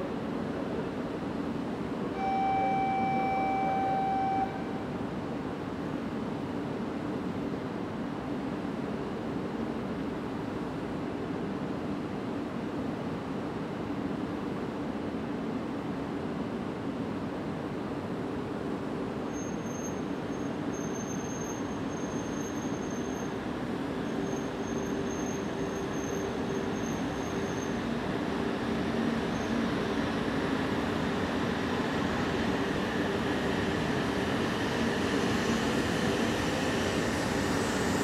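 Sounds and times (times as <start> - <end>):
train mechanical hum: 0.0 - 38.0.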